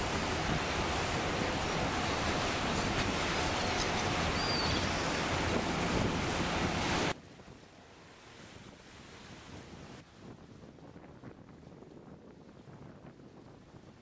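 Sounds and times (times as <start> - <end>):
water rushing along hull: 0.0 - 14.0
wind rushing over microphone: 0.0 - 14.0.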